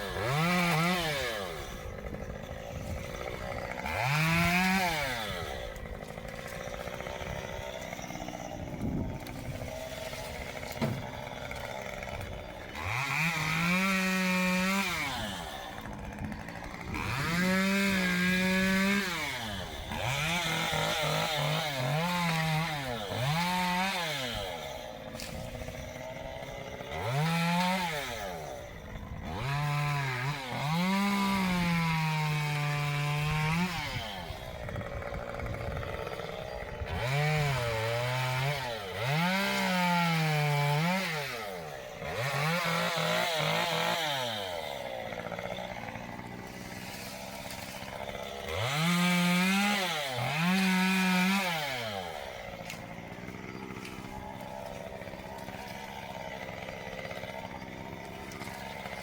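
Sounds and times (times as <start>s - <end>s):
chainsaw engine revving: 0.0s - 59.0s.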